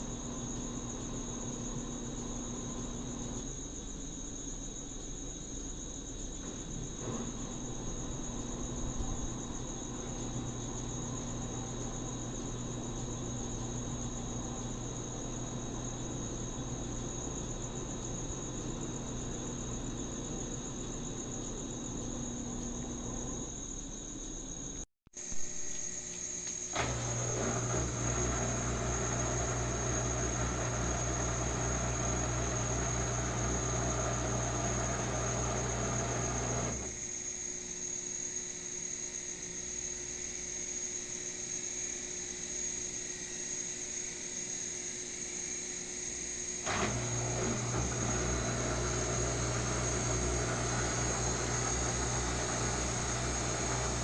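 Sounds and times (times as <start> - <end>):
washing machine motor running: 0.0 - 24.2, 26.7 - 37.5, 44.7 - 54.0
washing machine humming: 0.0 - 25.3, 26.3 - 37.5, 44.1 - 54.0.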